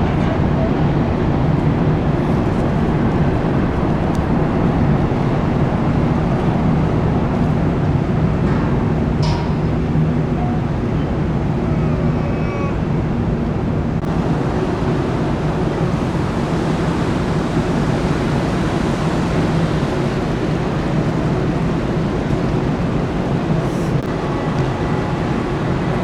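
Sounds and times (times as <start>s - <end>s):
ferry engines droning: 0.0s - 26.0s
wind and sea rushing: 0.0s - 26.0s.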